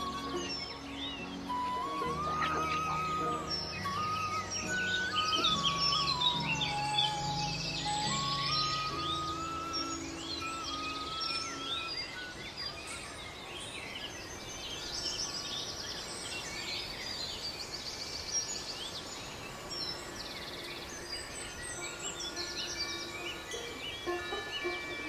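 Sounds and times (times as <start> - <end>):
background hiss: 0.0 - 25.0
faint sustained music notes: 0.0 - 25.0
small birds chirping and trilling: 0.0 - 25.0.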